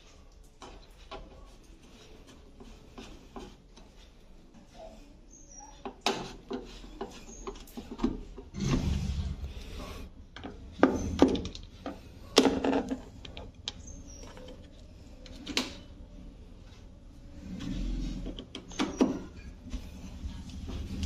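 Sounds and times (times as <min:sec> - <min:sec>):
scraping and rubbing: 0:00.7 - 0:05.1, 0:05.9 - 0:15.2, 0:16.6 - 0:21.0.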